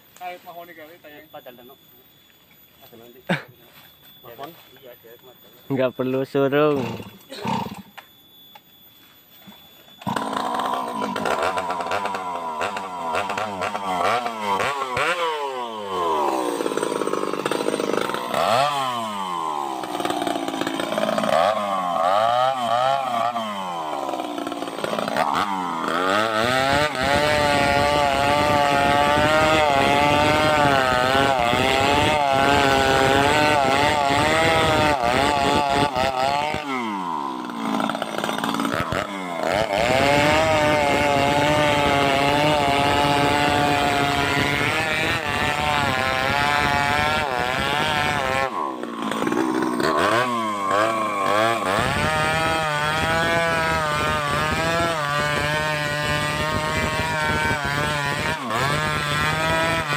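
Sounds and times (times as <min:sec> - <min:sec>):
chainsaw revving and cutting wood: 0:06.4 - 0:08.0, 0:10.0 - 0:59.9.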